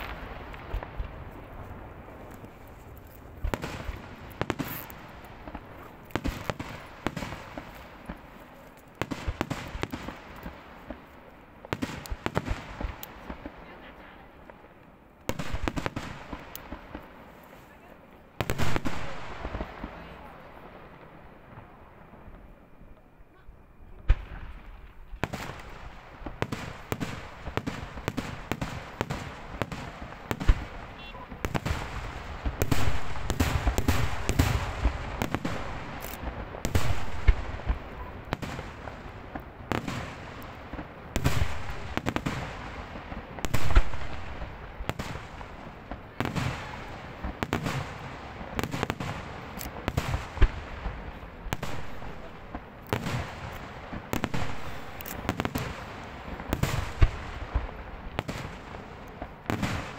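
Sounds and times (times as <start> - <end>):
loud fireworks bangs: 0.0 - 14.6, 15.3 - 22.6, 23.8 - 59.9
fireworks barrage: 0.0 - 14.7, 15.3 - 59.9
firecrackers crackling: 0.0 - 59.9.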